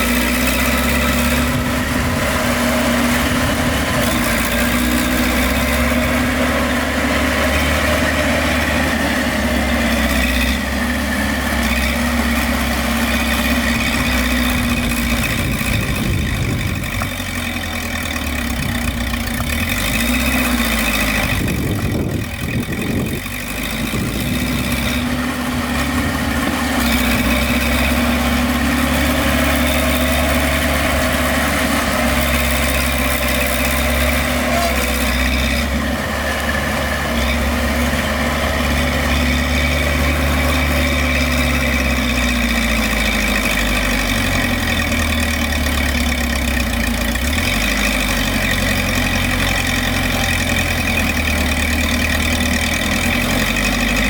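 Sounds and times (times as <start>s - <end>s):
heavy diesel machinery engine: 0.0s - 54.0s.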